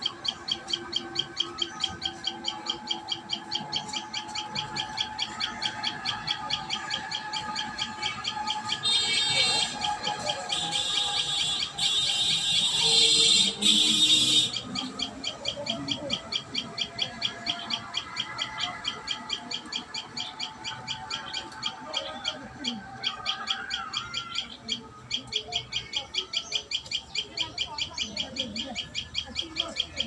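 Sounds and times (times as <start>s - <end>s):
bird chirping rapidly: 0.0s - 30.0s.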